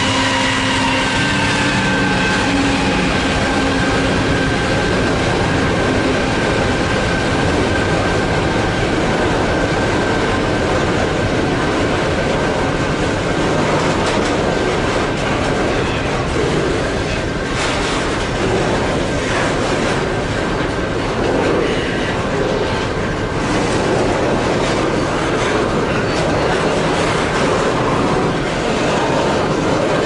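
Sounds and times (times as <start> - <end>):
diesel locomotive whine: 0.0 - 30.0
freight wagons rumbling and clattering: 0.0 - 30.0.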